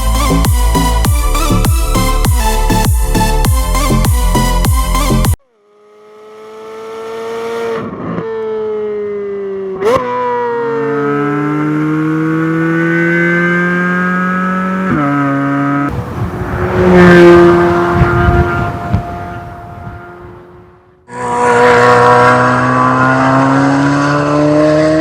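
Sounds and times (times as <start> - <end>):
sports car engine on track: 1.5 - 25.0.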